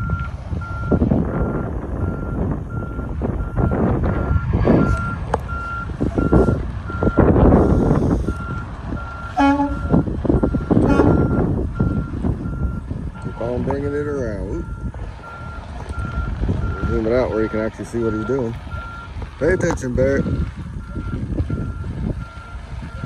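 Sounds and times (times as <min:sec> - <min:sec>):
low rumbling engine: 0:00.0 - 0:23.0
truck reversing alarm beeping: 0:00.0 - 0:23.0.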